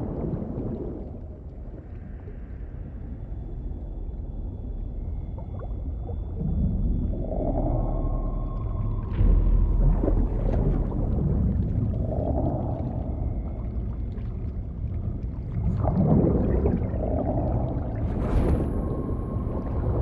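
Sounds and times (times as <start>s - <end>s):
deep underwater rumble: 0.0s - 20.0s
gurgling water: 0.0s - 20.0s.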